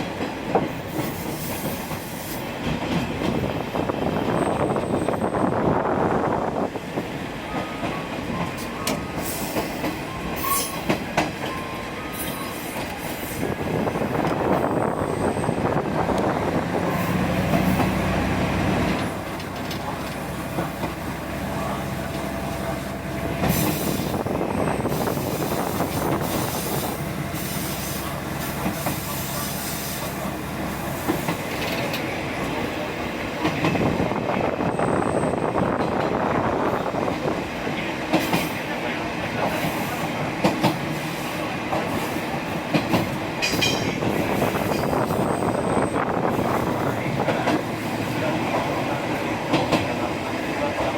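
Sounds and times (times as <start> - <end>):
train engine and wheels rumbling: 0.0 - 50.9.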